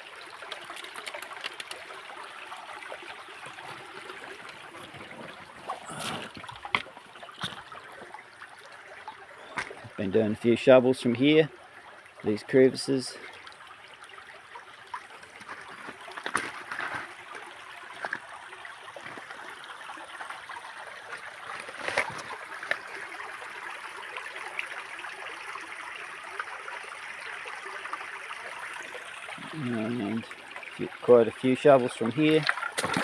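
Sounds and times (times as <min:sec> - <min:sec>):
creek water trickling: 0:00.0 - 0:33.0.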